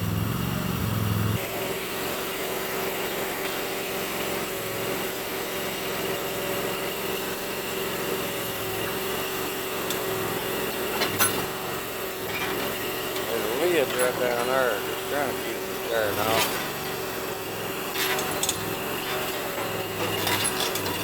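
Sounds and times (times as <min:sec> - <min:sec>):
backhoe engine running: 0:00.0 - 0:21.0.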